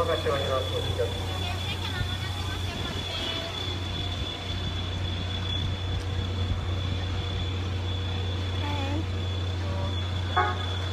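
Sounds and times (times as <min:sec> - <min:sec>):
thin high whine: 0:00.0 - 0:10.9
train running rumble: 0:00.0 - 0:10.9.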